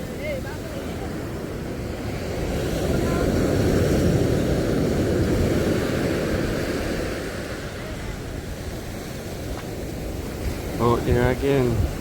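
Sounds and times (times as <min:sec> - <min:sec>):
sea surf washing on shore: 0:00.0 - 0:12.0
wind buffeting microphone: 0:00.0 - 0:12.0.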